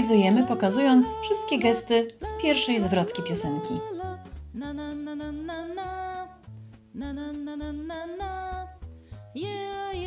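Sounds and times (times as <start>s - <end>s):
children's song music: 0.0s - 10.0s.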